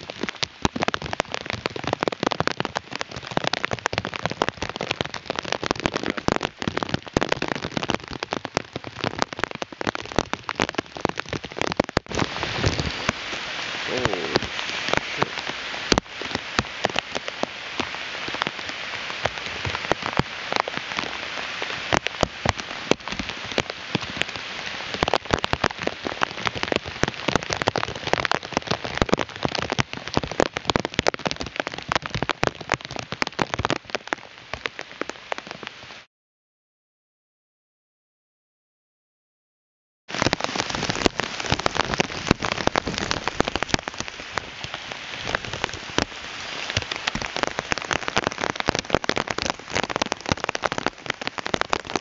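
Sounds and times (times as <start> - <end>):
heavy rain on hard surfaces: 0.0 - 36.1, 40.1 - 52.0.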